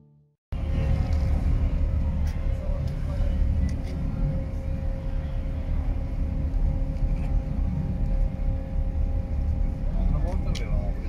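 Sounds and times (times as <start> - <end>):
machinery hum: 0.6 - 11.0
ship engines rumbling: 0.6 - 11.0.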